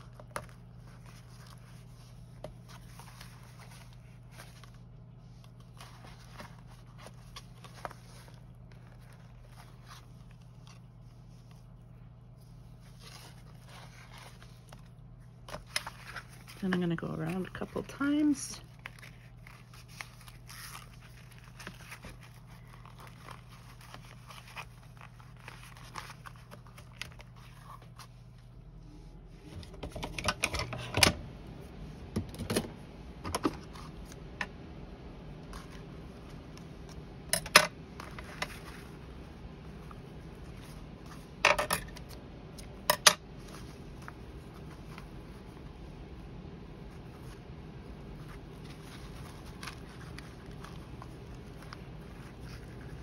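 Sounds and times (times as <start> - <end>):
twine rustling: 0.0 - 29.9, 35.0 - 53.0.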